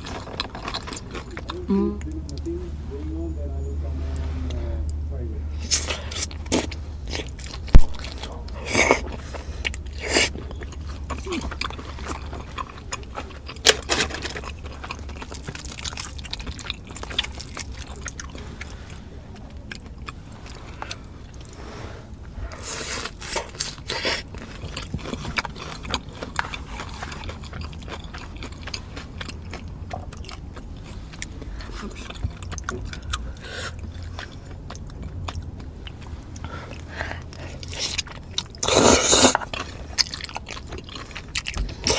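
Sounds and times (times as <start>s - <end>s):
person chewing food: 0.0s - 3.4s, 4.0s - 41.9s
steady low hum: 0.0s - 41.9s.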